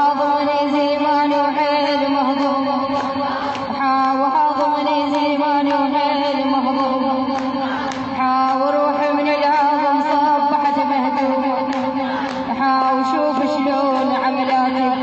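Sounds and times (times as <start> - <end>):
woman chanting: 0.0 - 15.0.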